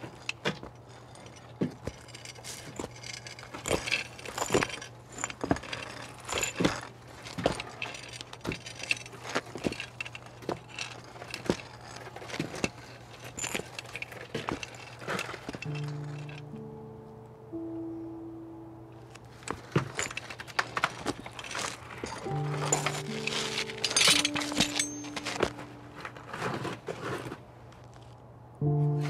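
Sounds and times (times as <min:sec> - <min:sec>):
footsteps crunching over rubble: 0:00.0 - 0:16.4, 0:19.0 - 0:28.3.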